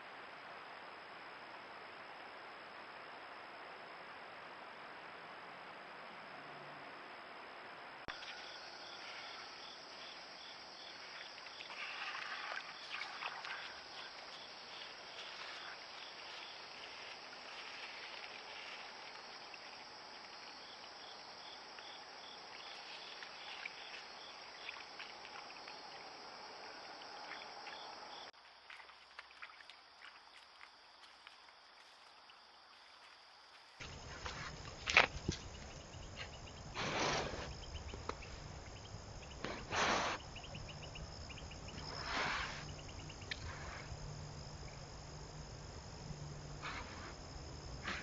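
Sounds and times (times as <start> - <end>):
insects chirping and trilling: 5.4 - 48.0.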